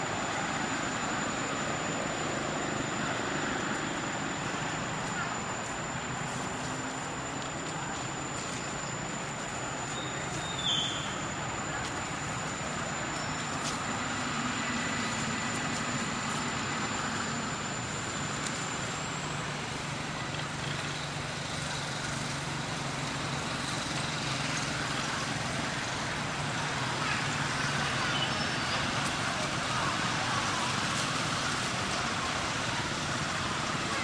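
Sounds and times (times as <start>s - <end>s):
distant road traffic hum: 0.0s - 34.0s.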